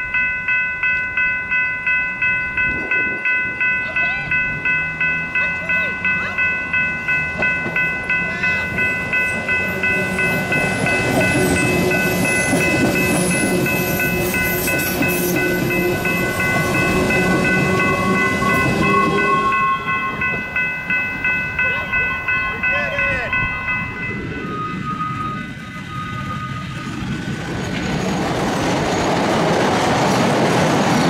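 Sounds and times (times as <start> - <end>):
crossing warning bell ringing: 0.0 - 31.0
train wheels and motors rumbling: 0.0 - 31.0.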